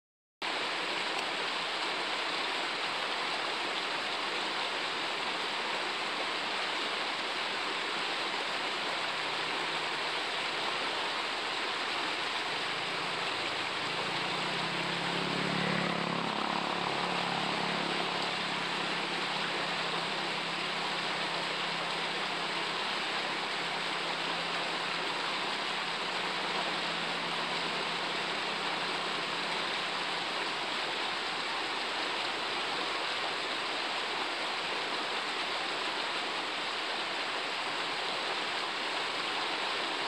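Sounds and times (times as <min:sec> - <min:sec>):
river water rushing: 0:00.5 - 0:40.0.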